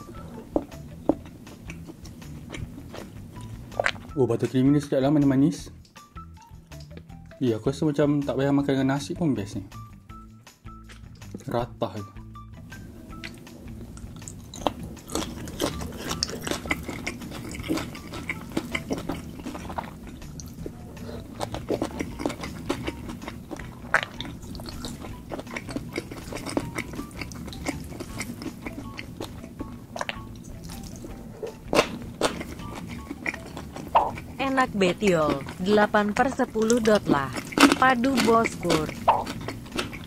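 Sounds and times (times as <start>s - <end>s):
quiet background music: 0.0s - 40.0s
chewing and wet mouth clicks: 0.5s - 4.2s, 5.7s - 7.2s, 10.7s - 11.4s, 13.1s - 40.0s.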